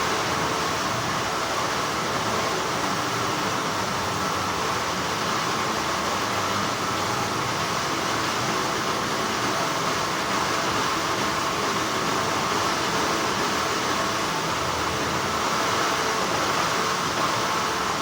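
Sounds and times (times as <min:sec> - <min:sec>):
textile machinery hum: 0:00.0 - 0:18.0.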